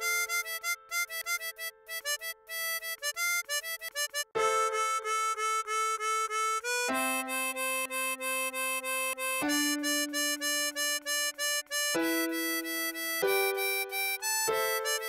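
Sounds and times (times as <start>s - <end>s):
harmonica short notes: 0.0s - 15.0s.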